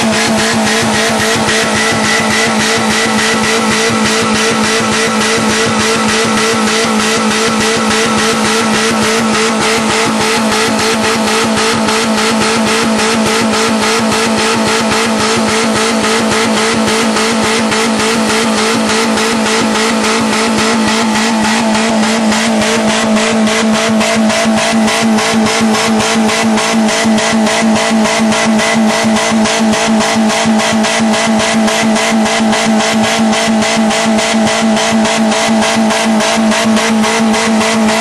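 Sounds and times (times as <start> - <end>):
car engine screaming at high revs: 0.0 - 38.0.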